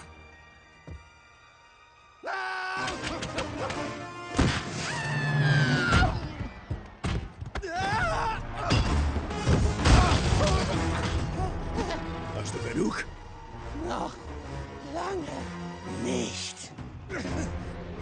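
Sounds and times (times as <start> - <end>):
orchestral score: 0.0 - 7.0, 7.8 - 18.0.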